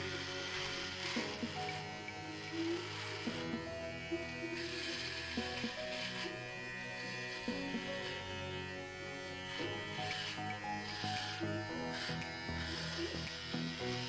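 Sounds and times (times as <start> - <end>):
background music: 0.0 - 14.0
hair clipper running: 0.0 - 14.0.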